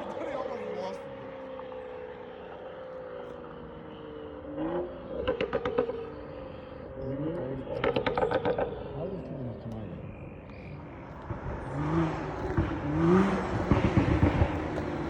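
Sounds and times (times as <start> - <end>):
car engine revving: 0.0 - 15.0
exhaust crackling pulses: 0.0 - 15.0.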